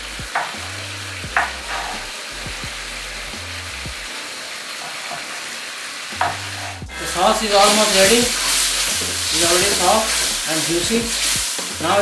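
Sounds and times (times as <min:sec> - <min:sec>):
background music: 0:00.0 - 0:12.0
tomatoes sizzling in oil: 0:00.0 - 0:12.0.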